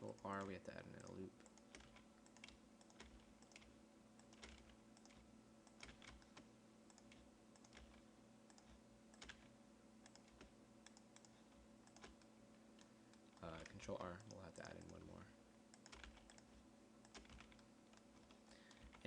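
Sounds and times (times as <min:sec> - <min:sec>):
keyboard and mouse clicks: 0:00.0 - 0:19.0
low steady hum: 0:00.0 - 0:19.0.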